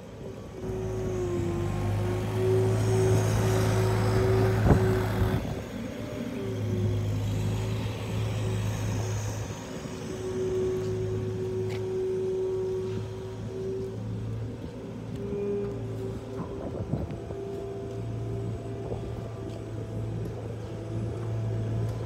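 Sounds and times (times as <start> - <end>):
ride-on mower engine running: 0.0 - 22.0.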